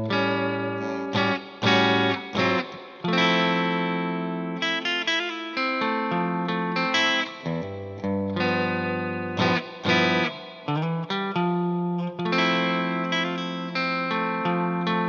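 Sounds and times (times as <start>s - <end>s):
clean electric guitar: 0.0s - 15.0s.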